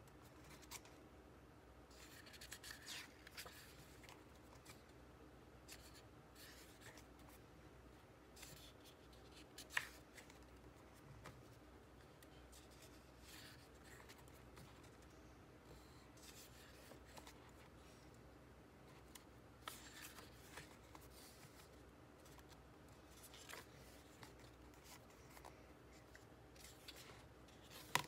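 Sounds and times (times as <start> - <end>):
book pages rustling: 0.2 - 1.0, 1.9 - 5.0, 5.6 - 7.4, 8.3 - 15.2, 15.8 - 18.2, 18.8 - 28.0.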